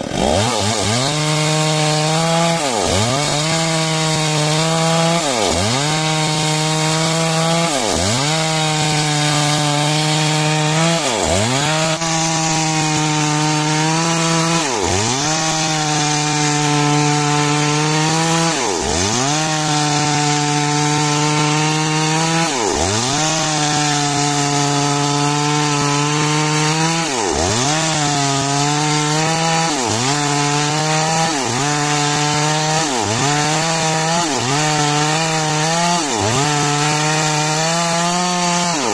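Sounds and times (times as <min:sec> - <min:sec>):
chainsaw sawing timber: 0:00.0 - 0:38.9.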